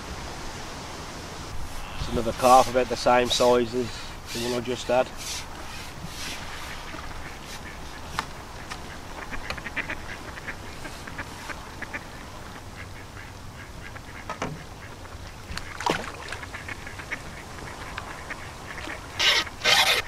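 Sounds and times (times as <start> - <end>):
ducks quacking: 1.6 - 20.0.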